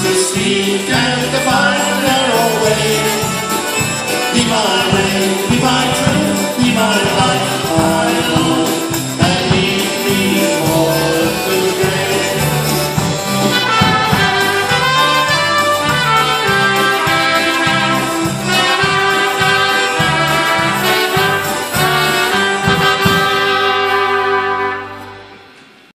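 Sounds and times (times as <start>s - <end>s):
polka band playing: 0.0s - 25.9s
trumpet: 0.0s - 25.9s.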